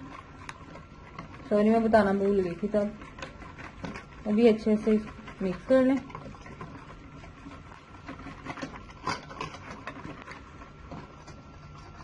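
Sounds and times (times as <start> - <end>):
faint steady hum: 0.0 - 12.0
spoon stirring thick paste: 0.0 - 12.0.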